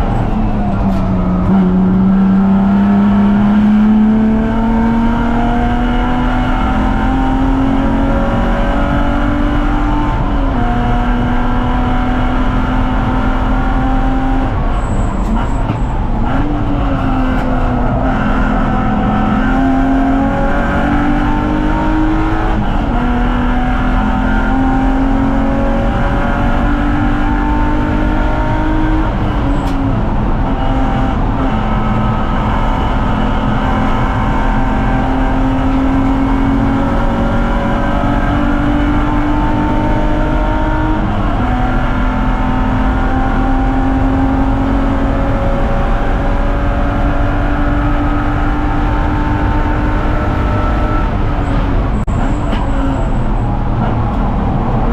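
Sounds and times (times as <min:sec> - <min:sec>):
car engine revving through gears: 0:00.0 - 0:54.9.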